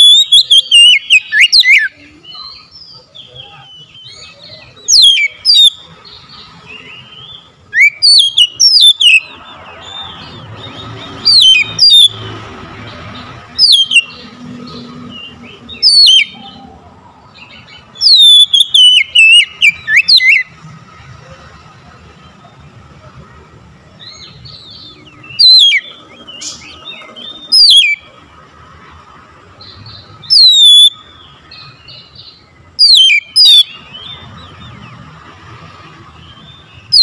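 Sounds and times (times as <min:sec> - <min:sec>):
bird singing whistled notes: 0:00.0 - 0:20.5, 0:24.0 - 0:28.1, 0:29.6 - 0:35.0, 0:36.2 - 0:37.0.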